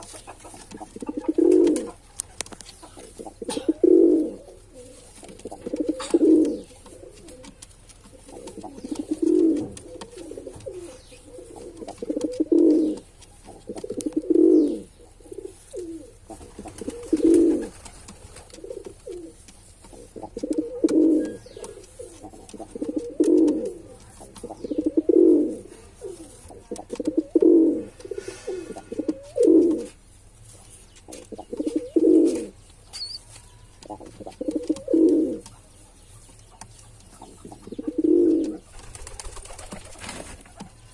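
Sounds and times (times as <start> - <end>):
pigeon cooing: 0.0 - 30.0, 31.1 - 40.9.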